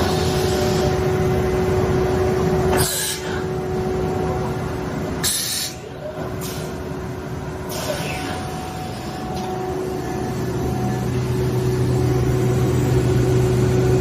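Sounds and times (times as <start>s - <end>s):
machine tonal hum: 0.0s - 14.0s.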